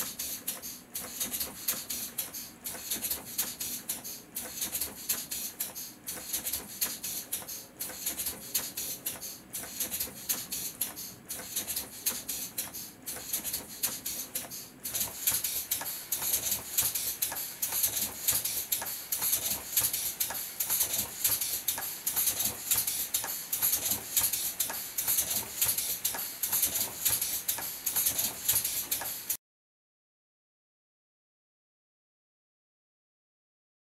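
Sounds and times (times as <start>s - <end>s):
air engine hissing exhaust puffs: 0.0s - 29.4s.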